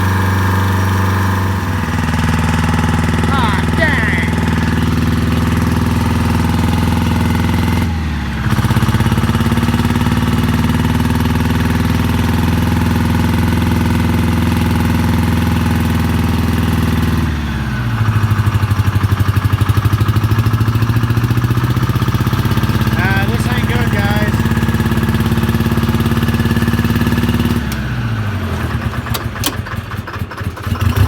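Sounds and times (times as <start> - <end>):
diesel engine running: 0.0 - 13.7, 14.4 - 31.0.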